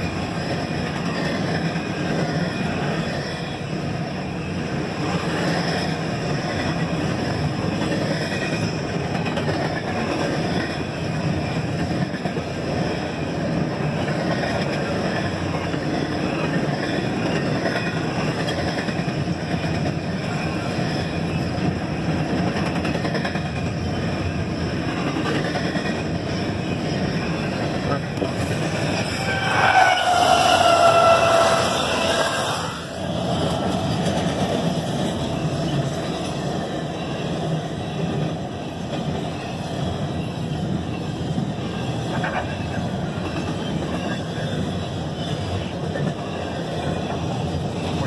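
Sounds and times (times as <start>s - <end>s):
steel wheels rolling on rails: 0.0s - 48.0s.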